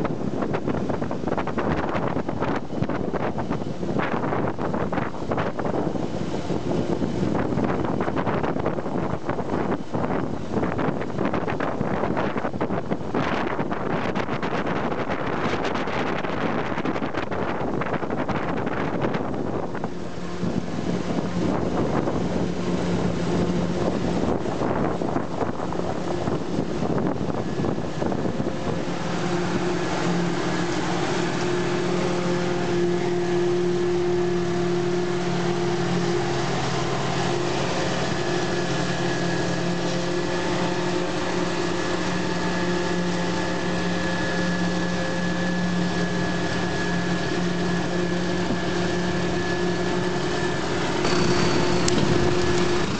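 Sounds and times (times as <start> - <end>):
diesel engine drone: 0.0 - 52.9
wind noise on microphone: 0.0 - 52.9.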